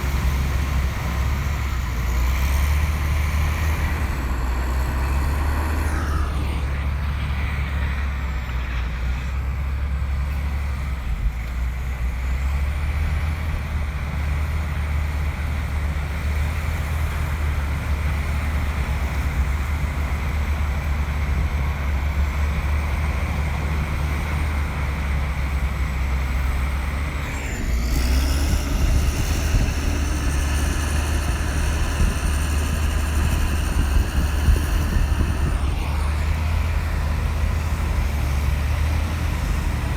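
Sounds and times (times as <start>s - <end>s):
bulldozer diesel engine rumbling: 0.0s - 39.9s.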